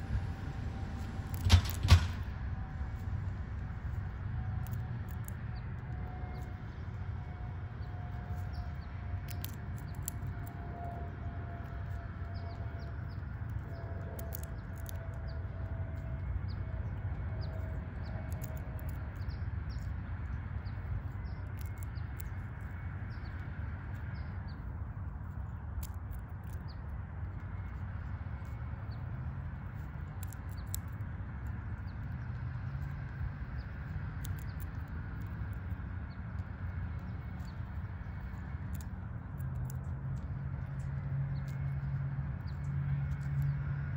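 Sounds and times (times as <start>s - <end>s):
steady low rumble: 0.0s - 43.9s
squirrel cracking seeds: 0.1s - 43.9s.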